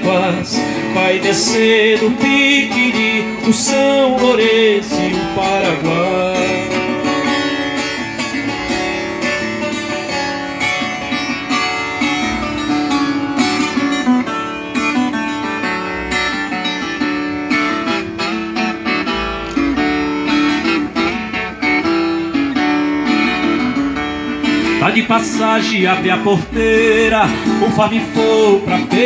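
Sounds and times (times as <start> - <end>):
plucked string guitar melody: 0.0 - 29.0.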